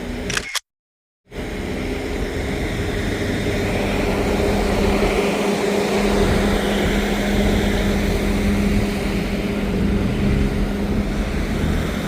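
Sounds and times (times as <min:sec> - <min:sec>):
idling engine drone: 0:01.3 - 0:12.0.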